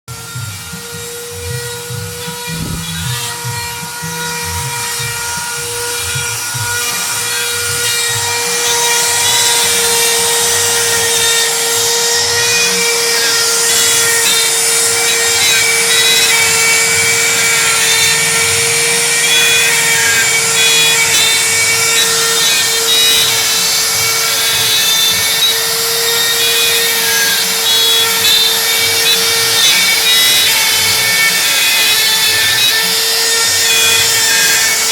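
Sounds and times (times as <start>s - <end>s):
router bit cutting rasp: 0.1s - 34.9s
router spindle whining: 0.1s - 34.9s.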